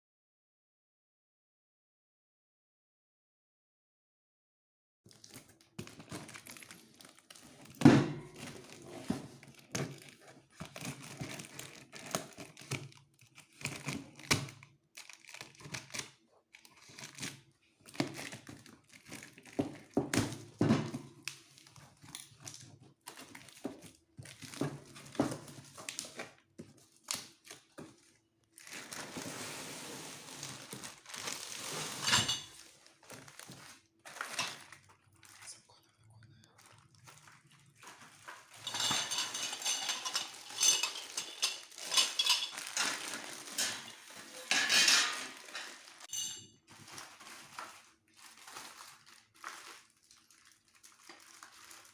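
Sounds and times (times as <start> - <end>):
plastic wrap and cardboard crinkling: 5.1 - 35.8, 36.4 - 51.9.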